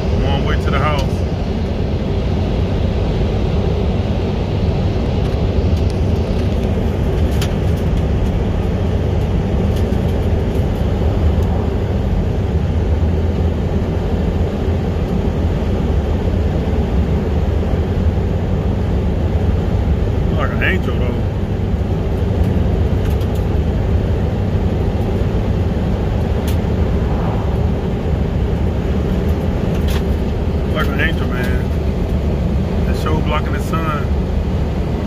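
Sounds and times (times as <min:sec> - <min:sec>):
vehicle road and engine rumble: 0:00.0 - 0:35.0.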